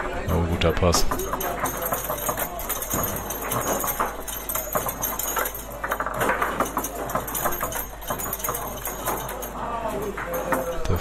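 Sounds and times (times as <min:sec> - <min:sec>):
faint background voices: 0:00.0 - 0:11.0
foosball clacks and rod rattles: 0:00.0 - 0:11.0.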